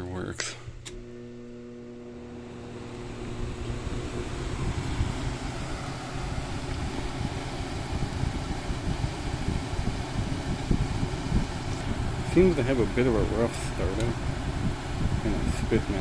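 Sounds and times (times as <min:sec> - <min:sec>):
air conditioner fan rushing: 0:00.0 - 0:16.0.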